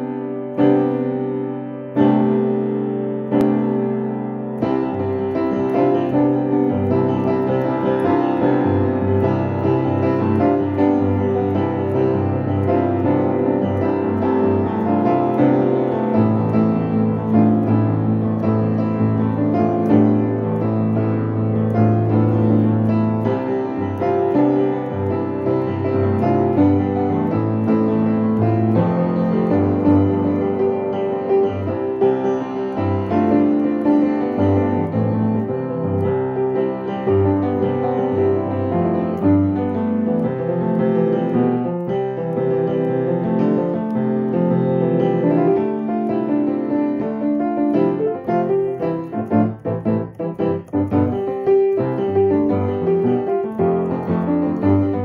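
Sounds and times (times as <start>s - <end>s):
solo piano piece: 0.0s - 55.0s.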